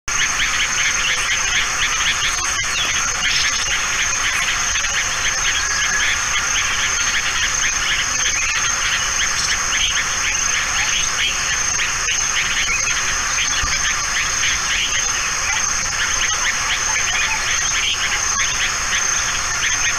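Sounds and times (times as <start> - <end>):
insects chirping: 0.1 - 19.9.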